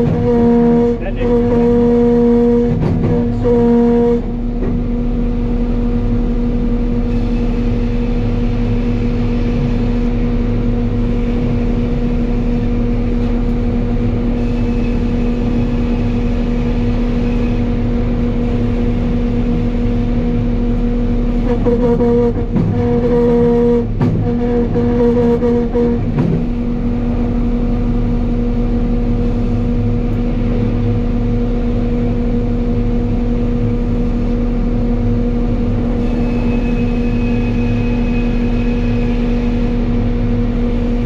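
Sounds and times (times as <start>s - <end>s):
sawmill machinery humming: 0.0s - 41.0s.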